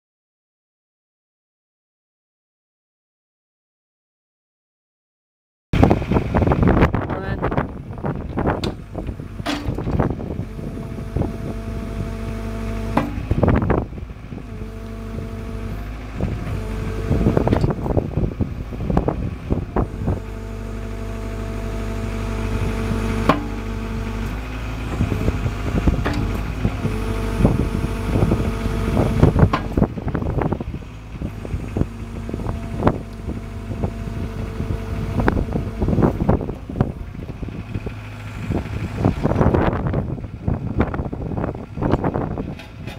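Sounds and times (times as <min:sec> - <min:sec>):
diesel engine running: 0:05.8 - 0:42.9
hydraulic whine: 0:05.8 - 0:42.9.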